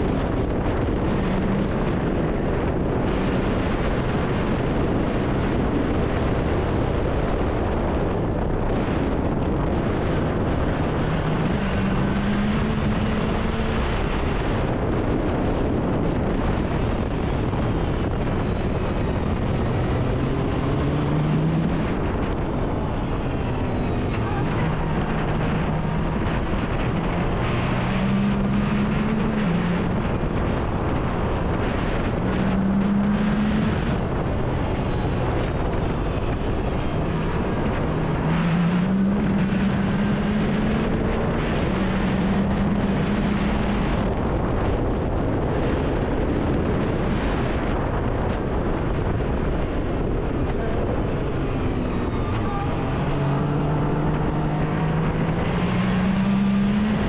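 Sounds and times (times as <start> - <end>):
engine accelerating and shifting: 0.0 - 57.0
wind noise: 0.0 - 57.0.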